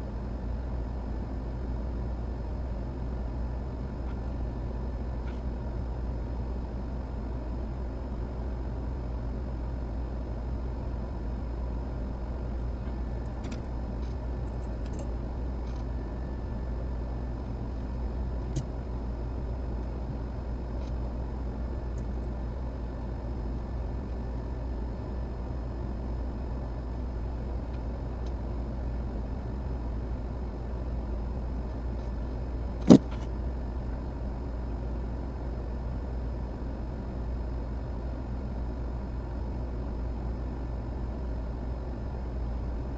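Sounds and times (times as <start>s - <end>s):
low mechanical hum: 0.0s - 42.9s.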